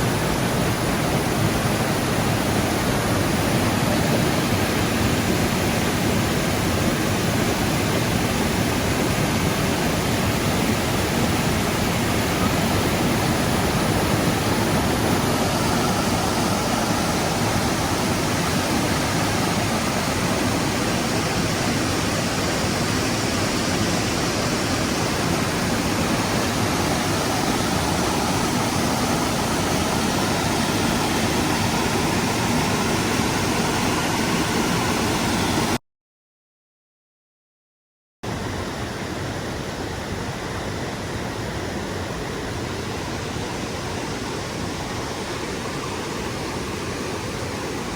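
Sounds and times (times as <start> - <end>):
creek water rushing: 0.0 - 35.8, 38.3 - 47.9.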